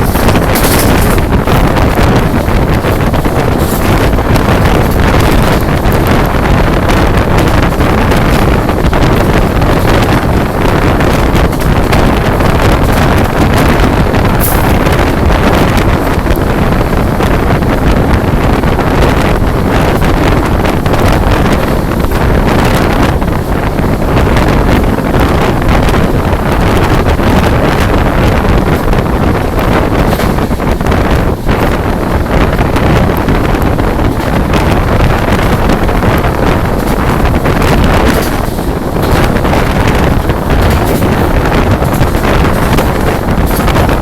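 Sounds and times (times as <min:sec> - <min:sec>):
express train running: 0:00.0 - 0:44.0
heavy rain: 0:00.0 - 0:44.0
wind buffeting microphone: 0:00.0 - 0:44.0.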